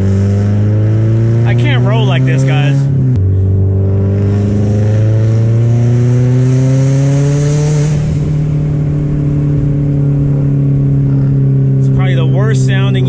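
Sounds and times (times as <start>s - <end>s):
turbo car engine rasping exhaust: 0.0s - 13.0s.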